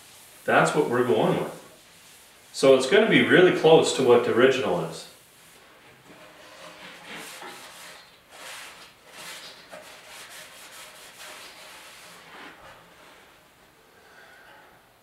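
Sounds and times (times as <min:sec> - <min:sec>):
hand rubbing a surface: 0:00.0 - 0:13.6.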